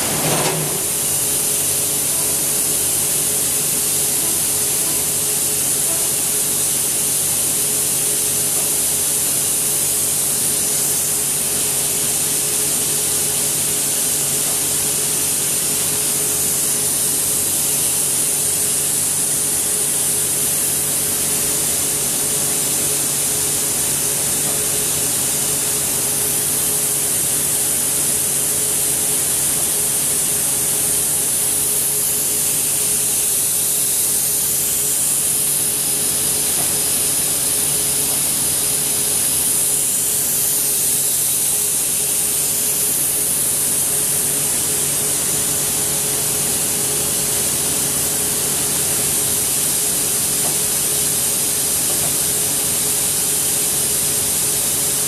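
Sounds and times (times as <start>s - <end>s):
milling machine hissing: 0.0s - 55.0s.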